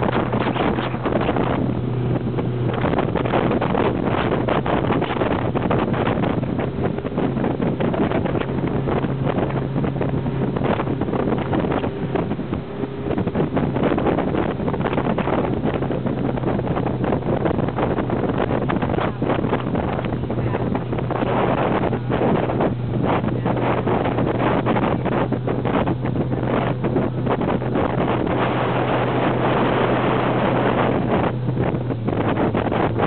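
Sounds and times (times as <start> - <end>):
motorboat engine humming: 0.0 - 33.0
wind buffeting microphone: 0.0 - 33.0.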